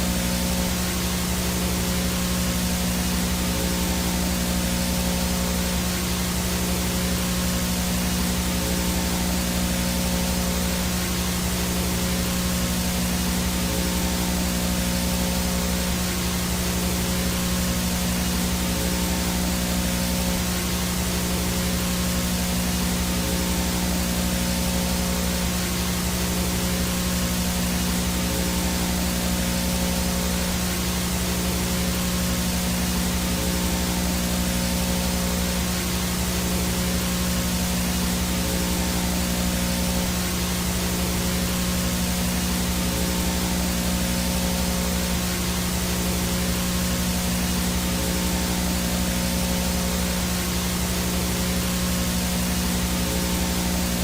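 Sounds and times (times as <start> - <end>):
constant low hum: 0.0 - 54.0
static hiss: 0.0 - 54.0.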